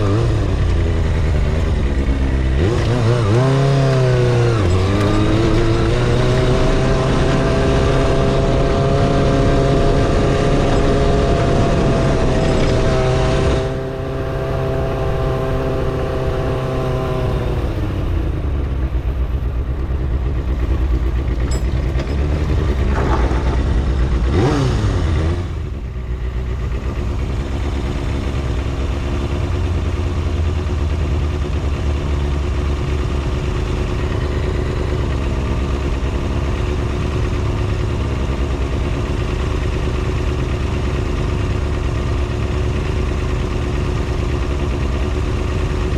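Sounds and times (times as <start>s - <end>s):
motorcycle engine revving and idling: 0.0s - 45.9s.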